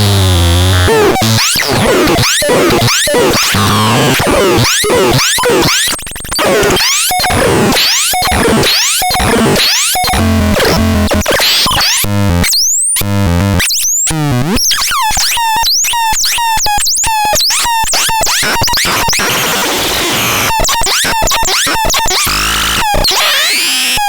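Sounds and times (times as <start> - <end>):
glitchy synthesizer bleeps and chirps: 0.2 - 13.0, 14.4 - 24.0.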